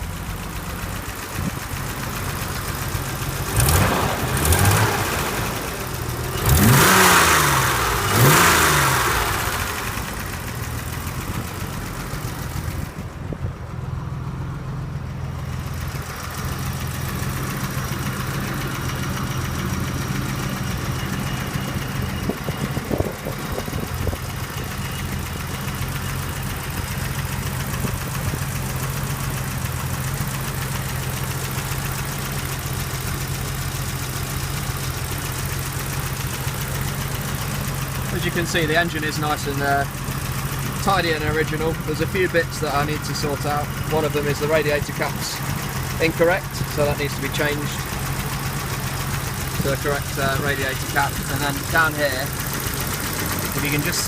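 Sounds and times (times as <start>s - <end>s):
car engine revving and idling: 0.0s - 54.0s.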